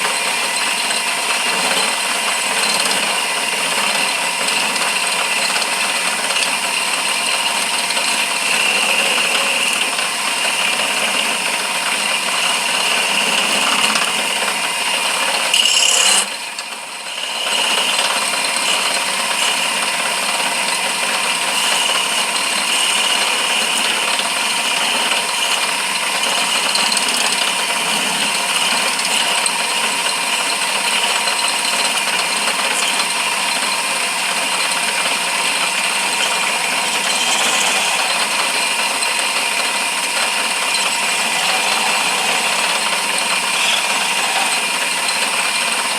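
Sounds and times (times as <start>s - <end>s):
lathe tool cutting workpiece: 0.0s - 45.9s.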